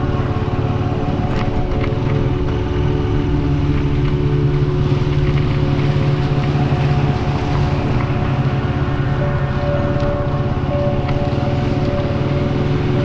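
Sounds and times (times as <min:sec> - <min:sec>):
road noise: 0:00.0 - 0:13.0
vehicle engine running: 0:00.0 - 0:13.0.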